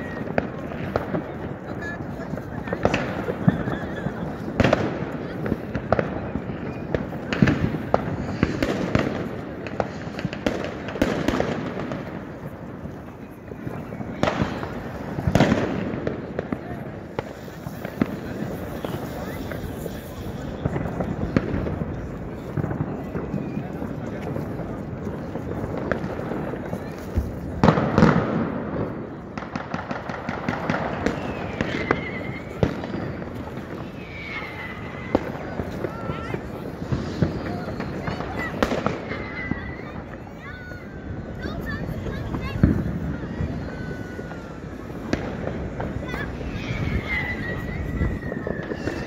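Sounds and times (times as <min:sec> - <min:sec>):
distant firework explosions: 0:00.0 - 0:49.0
firecracker bangs and cracks: 0:00.0 - 0:49.0.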